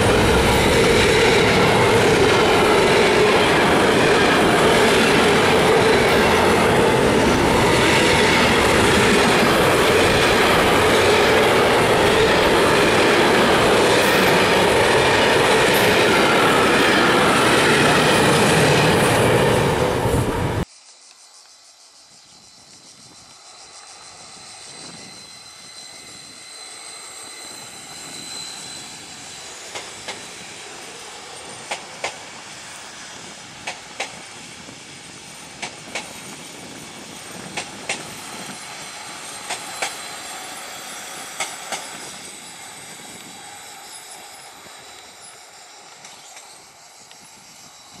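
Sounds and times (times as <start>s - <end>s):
train rumbling past: 0.0s - 20.7s, 21.4s - 48.0s.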